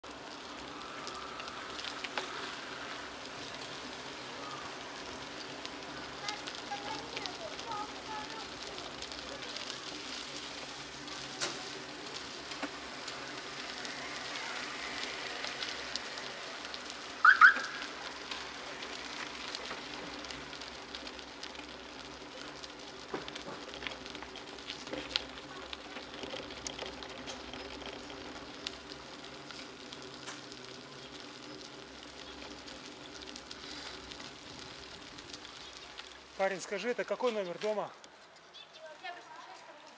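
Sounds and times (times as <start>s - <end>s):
small clicks and rattles: 0.0s - 38.6s
bicycle tyres hissing on wet asphalt: 0.0s - 39.9s.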